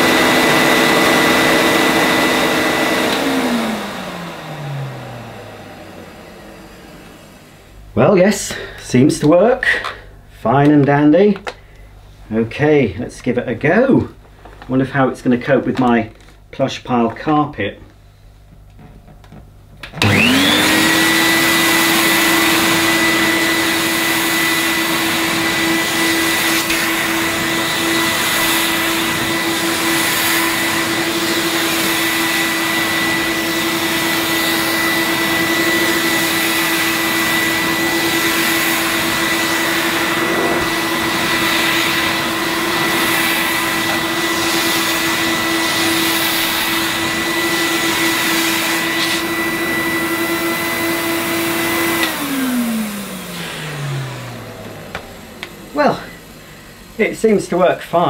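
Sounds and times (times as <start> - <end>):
power head on carpet: 0.0 - 7.8, 18.6 - 58.0
vacuum cleaner motor whining: 0.0 - 10.1, 18.6 - 58.0.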